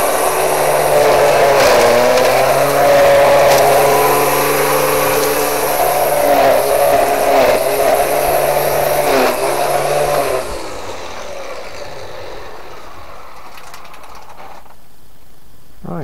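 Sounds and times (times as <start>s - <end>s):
electric string trimmer running: 0.0s - 14.7s.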